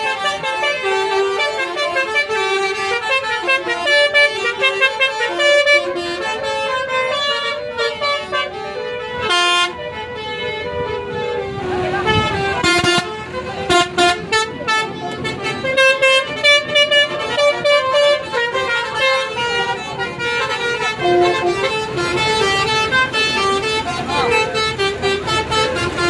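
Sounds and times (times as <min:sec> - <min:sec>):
loud horn blasts: 0:00.0 - 0:26.0
multi-tone bus horn tune: 0:00.0 - 0:26.0.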